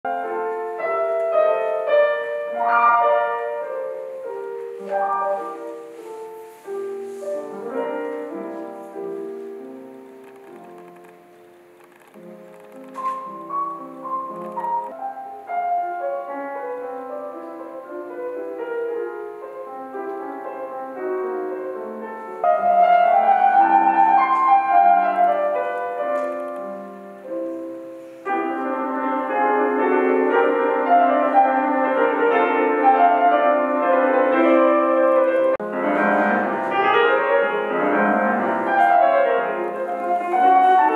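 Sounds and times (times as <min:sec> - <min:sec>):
solo classical piano: 0:00.0 - 0:40.9.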